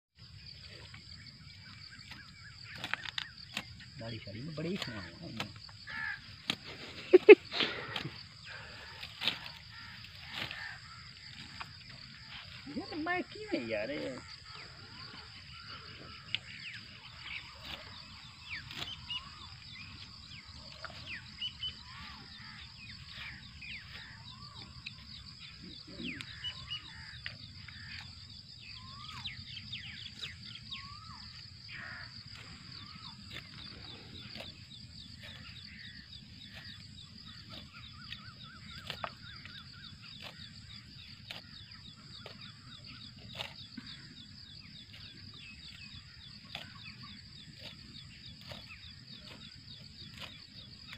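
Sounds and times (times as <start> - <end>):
birds chirping and calling: 0.2 - 50.9
high insect buzz: 1.6 - 50.9.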